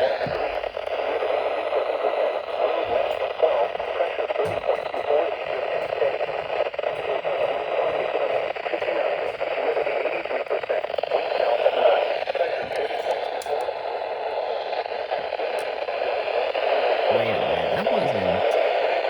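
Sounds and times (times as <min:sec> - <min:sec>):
radio static hiss and crackle: 0:00.0 - 0:19.0.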